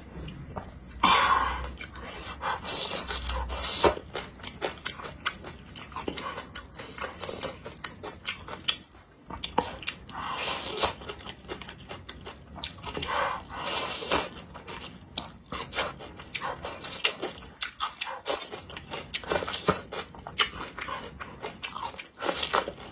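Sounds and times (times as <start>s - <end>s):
wet chewing: 0.0s - 22.9s.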